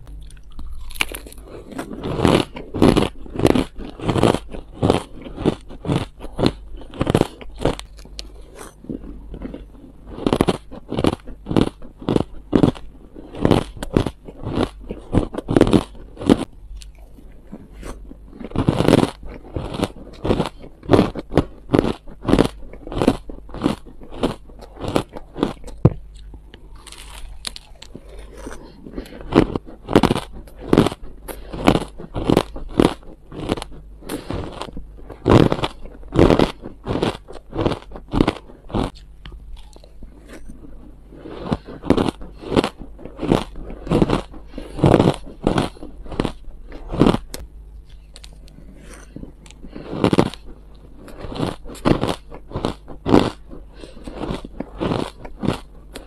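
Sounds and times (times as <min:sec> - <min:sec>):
crushed ice being chewed: 0:00.0 - 0:56.0.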